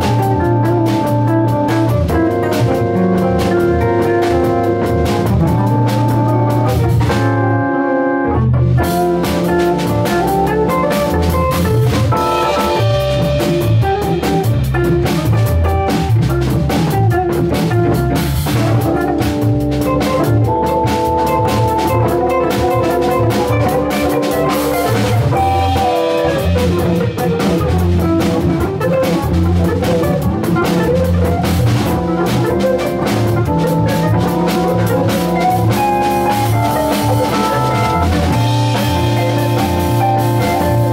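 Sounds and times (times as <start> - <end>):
drum kit on cymbals and drums: 0.0 - 7.3, 8.7 - 40.9
electric guitar playing: 0.0 - 40.9
electric organ chords: 0.0 - 40.9.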